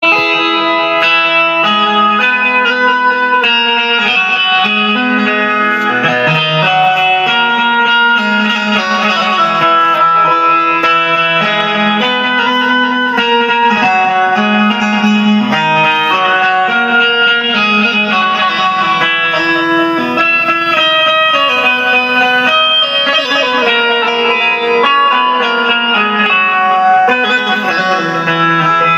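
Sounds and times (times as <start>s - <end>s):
plucked keyed string melody: 0.0s - 28.9s.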